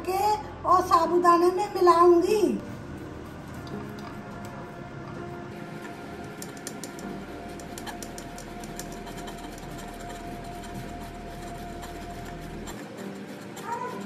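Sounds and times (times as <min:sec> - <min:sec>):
potatoes scraping on grater: 0:01.9 - 0:14.0.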